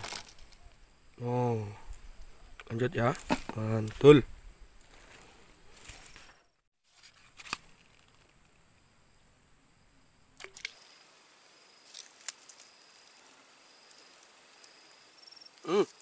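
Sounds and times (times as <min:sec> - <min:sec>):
insect chirring: 0:00.0 - 0:16.0.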